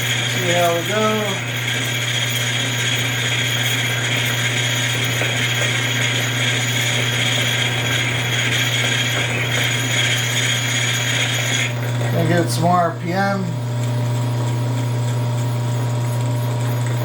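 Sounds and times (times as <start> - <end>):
lathe motor hum: 0.0 - 17.0.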